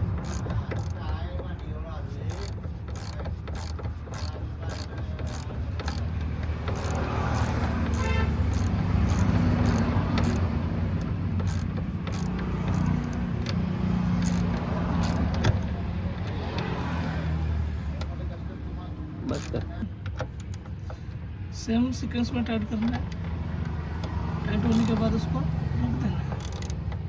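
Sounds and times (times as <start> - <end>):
ratchet wrench clicking: 0.0 - 18.3, 19.3 - 21.2, 22.3 - 27.0
vehicle engine humming: 0.0 - 27.0.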